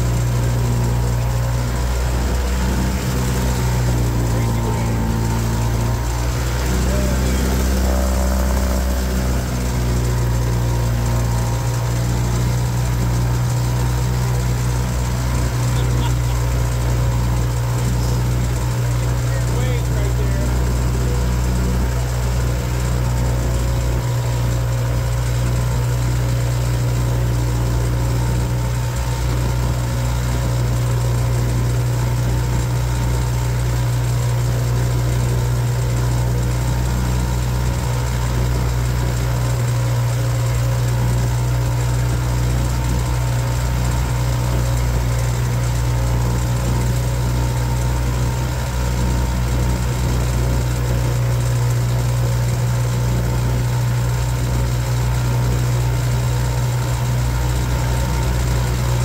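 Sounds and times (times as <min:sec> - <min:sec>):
boat motor droning: 0:00.0 - 0:59.0.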